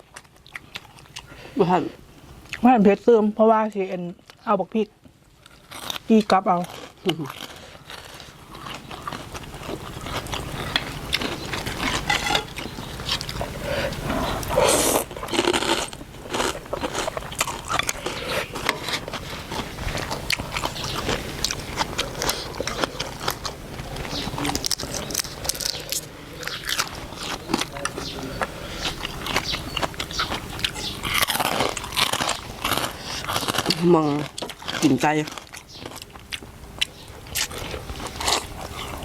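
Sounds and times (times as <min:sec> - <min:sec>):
person chewing crisp food: 0:00.0 - 0:02.7, 0:04.2 - 0:39.0.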